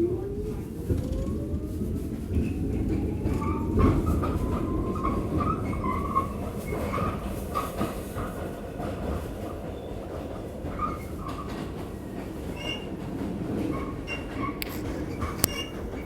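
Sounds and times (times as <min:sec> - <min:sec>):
wheels rumbling on track: 0:00.0 - 0:16.0.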